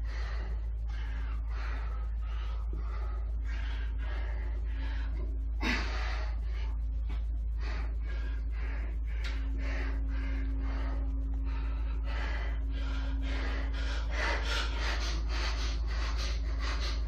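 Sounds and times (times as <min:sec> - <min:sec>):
man breathing hard: 0:00.0 - 0:17.0
steady low hum: 0:00.0 - 0:17.0.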